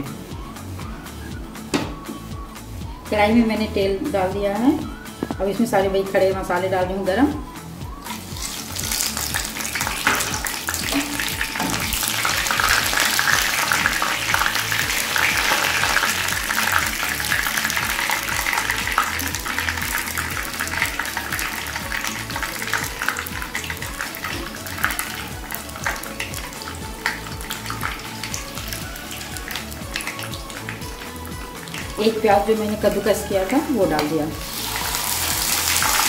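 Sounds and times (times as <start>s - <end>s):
spices sizzling in hot oil: 4.0s - 36.0s.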